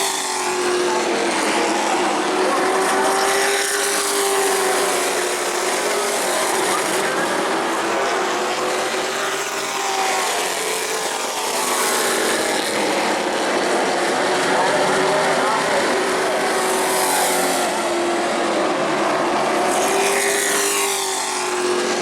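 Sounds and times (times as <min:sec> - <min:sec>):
race truck engines passing: 0:00.0 - 0:22.0.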